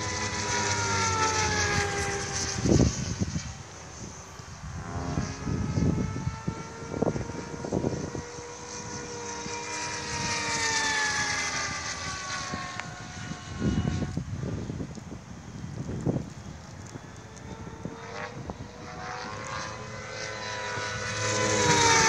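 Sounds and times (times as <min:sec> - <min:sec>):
model aircraft motor whine: 0:00.0 - 0:22.0
wind buffeting microphone: 0:00.0 - 0:22.0.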